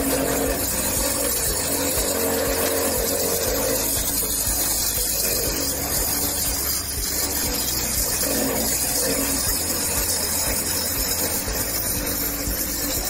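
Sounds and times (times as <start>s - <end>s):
grinding wheel on metal: 0.0s - 13.0s.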